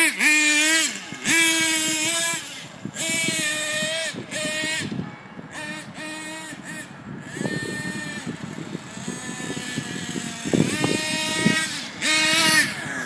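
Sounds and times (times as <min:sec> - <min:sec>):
rc car engine revving: 0:00.0 - 0:13.0.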